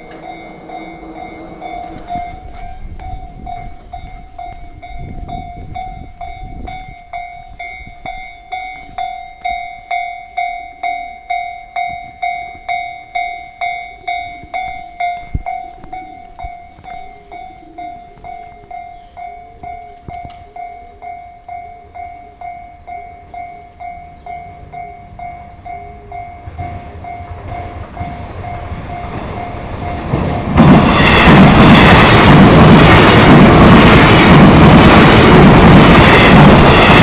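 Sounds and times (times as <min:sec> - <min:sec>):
level-crossing electronic bell: 0:00.0 - 0:37.0.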